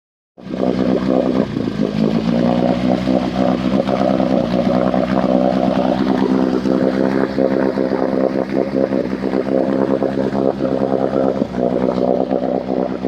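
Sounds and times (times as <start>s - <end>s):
engine idling: 0.4s - 13.0s.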